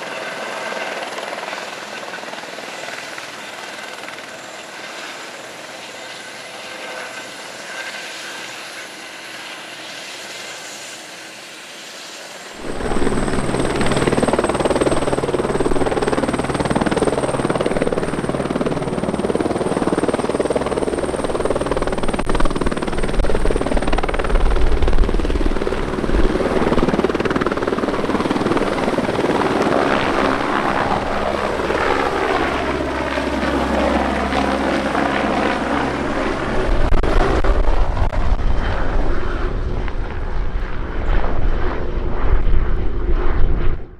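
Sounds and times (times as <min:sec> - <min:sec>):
helicopter rotor noise: 0:00.0 - 0:43.9
high turbine whine: 0:00.0 - 0:43.9.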